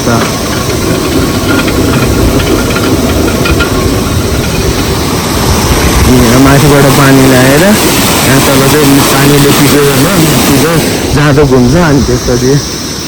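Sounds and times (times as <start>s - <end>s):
low rumble: 0.0s - 13.0s
water rushing from mill chute: 0.0s - 13.0s.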